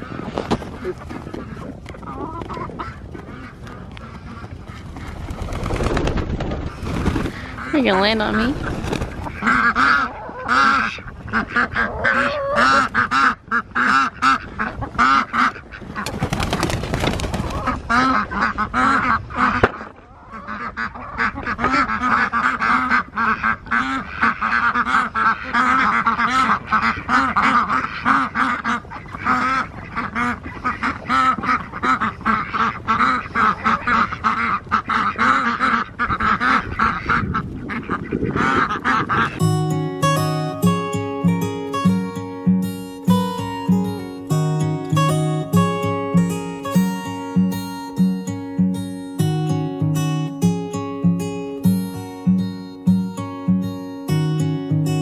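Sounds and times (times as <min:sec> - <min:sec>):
ducks quacking: 0:00.0 - 0:05.9, 0:06.6 - 0:55.0.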